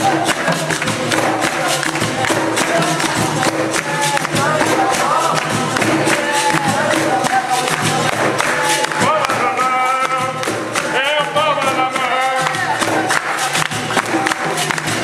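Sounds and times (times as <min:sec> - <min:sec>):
hand drum: 0:00.0 - 0:15.0
hand-clapping: 0:00.0 - 0:15.0
voices singing: 0:00.0 - 0:15.0.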